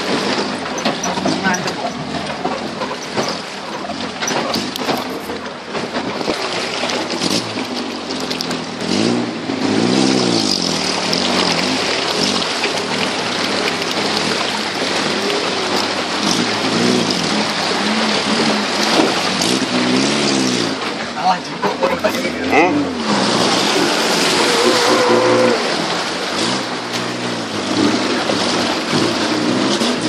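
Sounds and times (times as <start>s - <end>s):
off-road vehicle engine revving: 0.0s - 30.0s
river water rushing and splashing: 0.0s - 30.0s.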